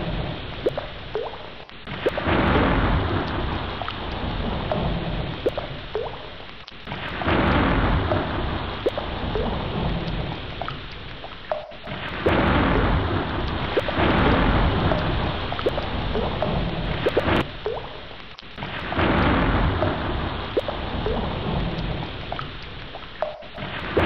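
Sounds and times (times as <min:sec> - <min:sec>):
thunder rumbling: 0:00.0 - 0:00.9, 0:01.9 - 0:18.0, 0:18.6 - 0:24.0
heavy rain pouring: 0:00.0 - 0:24.0.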